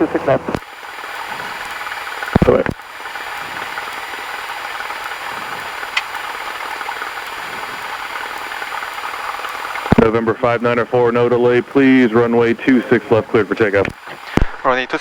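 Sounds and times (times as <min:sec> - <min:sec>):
light aircraft engine idling: 0:00.0 - 0:14.5.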